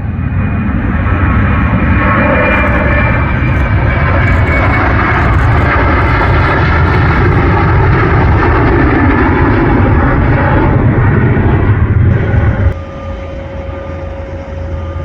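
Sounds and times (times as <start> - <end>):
high engine whine: 0.0 - 15.0
jet engines rumbling: 0.0 - 15.0.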